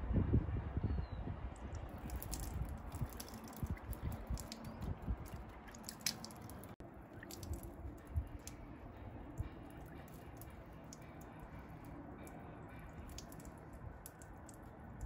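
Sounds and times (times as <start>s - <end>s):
water dripping on wood: 1.7s - 15.0s.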